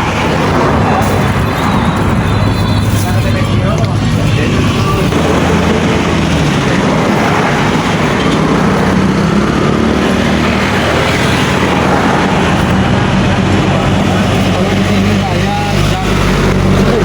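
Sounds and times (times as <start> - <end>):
engine hum with rushing noise: 0.0 - 17.0.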